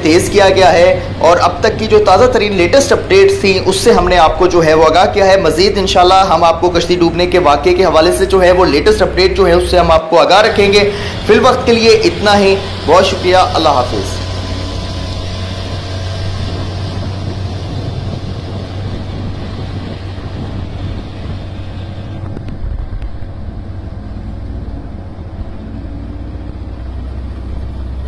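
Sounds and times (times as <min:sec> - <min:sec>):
wind noise on microphone: 0:00.0 - 0:09.2, 0:14.2 - 0:28.0
engine hum: 0:00.0 - 0:28.0.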